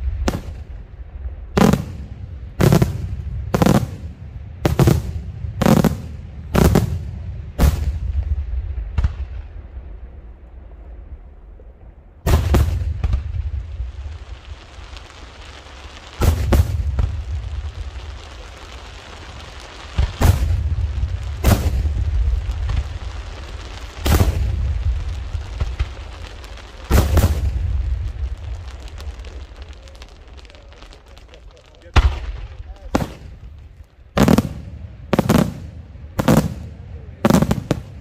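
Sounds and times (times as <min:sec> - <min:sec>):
firework bangs with echo: 0:00.0 - 0:09.8, 0:12.2 - 0:38.0.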